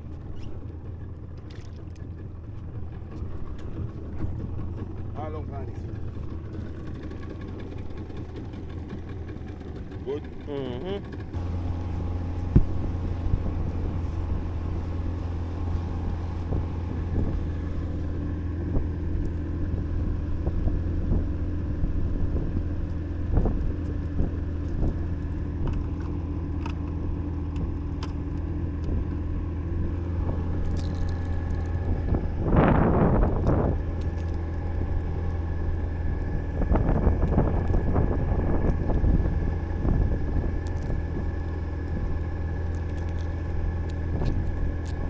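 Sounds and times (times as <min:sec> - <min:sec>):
boat engine humming: 0:00.0 - 0:45.0.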